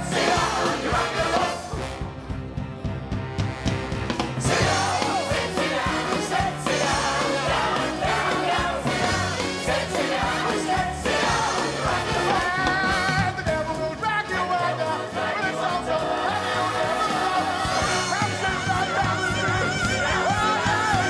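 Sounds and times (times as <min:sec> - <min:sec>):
pit orchestra playing show tune: 0:00.0 - 0:21.0.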